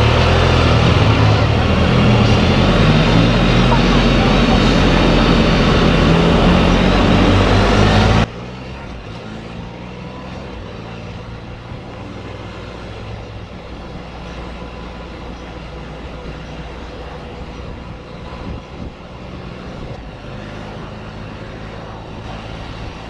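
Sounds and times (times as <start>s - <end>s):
engine drone: 0.0s - 23.0s
wind and road rush: 0.0s - 23.0s.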